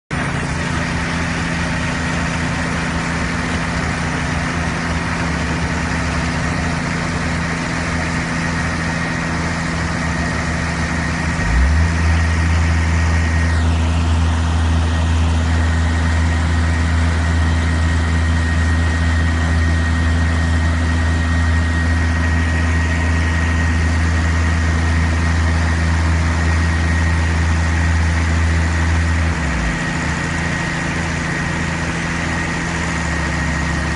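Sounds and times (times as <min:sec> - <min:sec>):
deep loud hum: 0:00.1 - 0:33.9
tractor engine running: 0:00.1 - 0:33.9.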